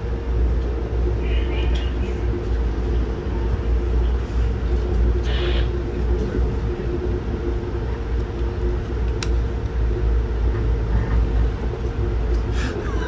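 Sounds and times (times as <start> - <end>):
freight train passing: 0.0 - 13.0
train rumbling at speed: 0.0 - 13.0.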